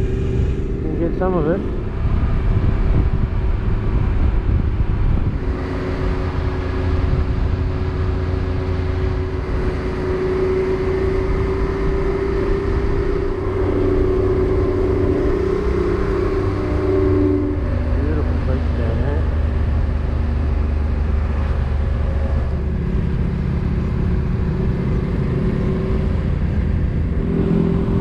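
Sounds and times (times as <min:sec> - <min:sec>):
low road rumble: 0:00.0 - 0:28.0
motorcycle engine cruising: 0:00.0 - 0:28.0.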